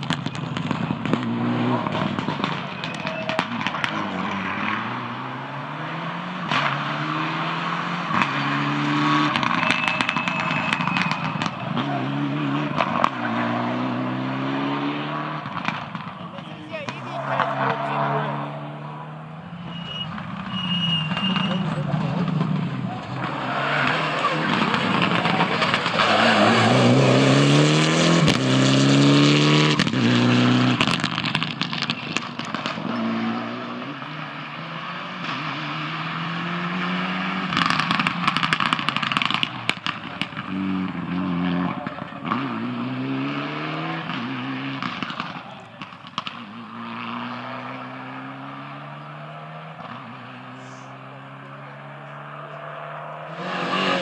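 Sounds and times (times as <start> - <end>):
engine crackles: 0.0 - 54.0
rally car engine revving: 0.0 - 54.0.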